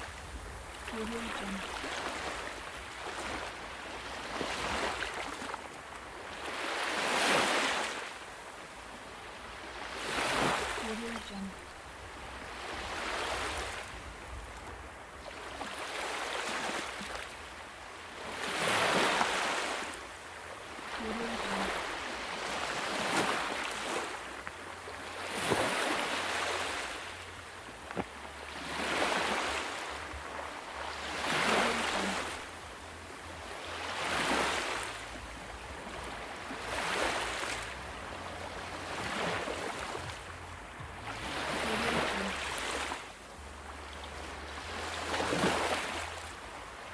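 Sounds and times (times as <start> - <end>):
ocean waves washing ashore: 0.0 - 46.9.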